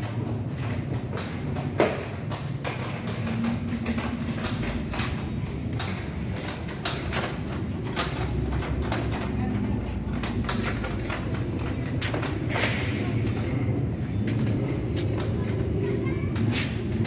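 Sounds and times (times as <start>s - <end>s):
steady low rumble: 0.0s - 17.0s
tools clicking and clattering: 0.0s - 17.0s.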